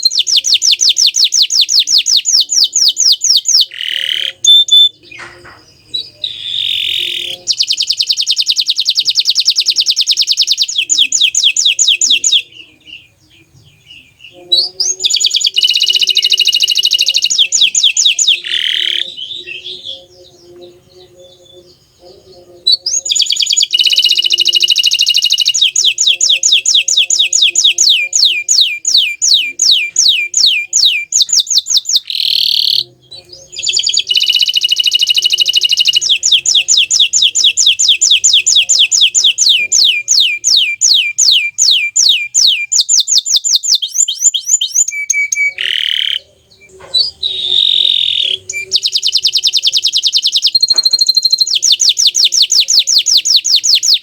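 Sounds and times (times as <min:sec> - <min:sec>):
canary singing rolling trills: 0:00.0 - 0:54.0.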